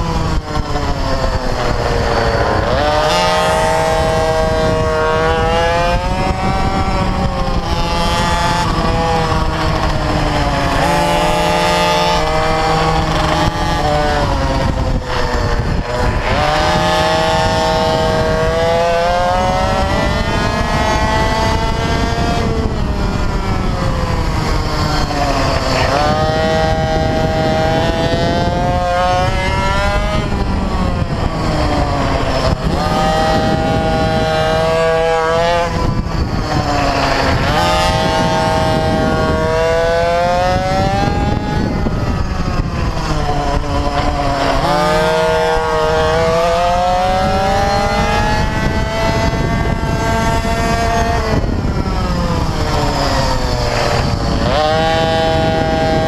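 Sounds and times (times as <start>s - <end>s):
mini bike engine revving: 0.0s - 56.0s
wind rumble on microphone: 0.0s - 56.0s.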